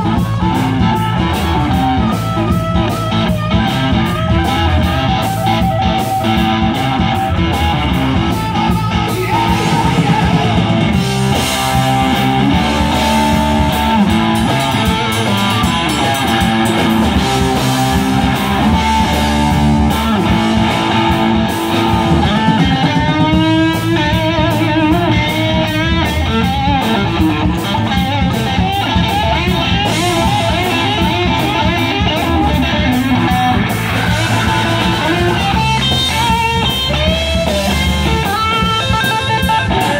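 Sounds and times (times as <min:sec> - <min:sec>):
bending lead guitar line: 0:00.0 - 0:39.9
rock band playing: 0:00.0 - 0:39.9.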